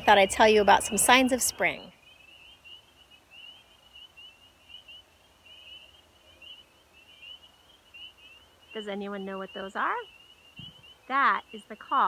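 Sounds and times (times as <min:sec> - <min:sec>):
frogs peeping: 0:00.0 - 0:12.0.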